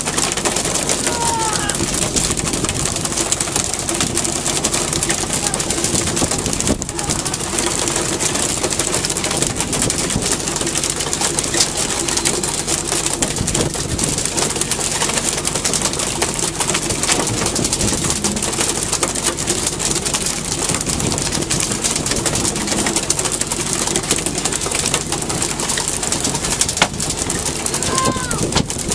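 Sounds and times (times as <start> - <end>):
boat engine drone: 0.0 - 28.9
water rushing along hull: 0.0 - 28.9.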